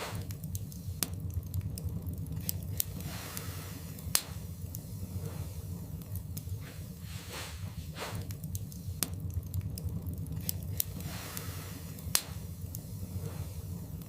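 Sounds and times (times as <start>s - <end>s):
logs crackling and popping: 0.0s - 14.0s
rumble of fire flames: 0.0s - 14.0s.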